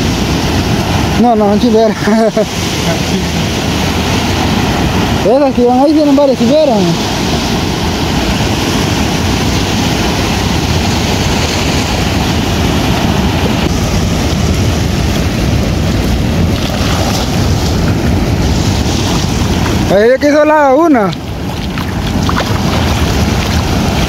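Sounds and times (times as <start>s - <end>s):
ocean surf washing up: 0.0s - 24.0s
wind buffeting microphone: 0.0s - 24.0s.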